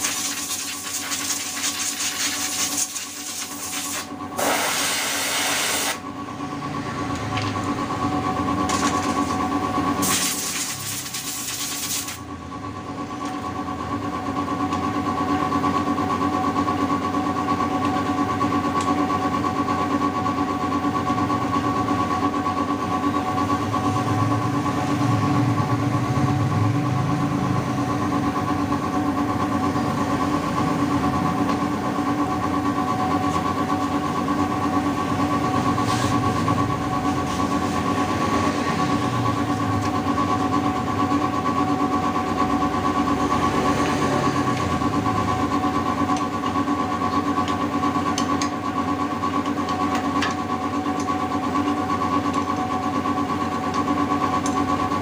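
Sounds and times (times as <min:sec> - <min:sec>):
motor running steadily: 0:00.0 - 0:55.0.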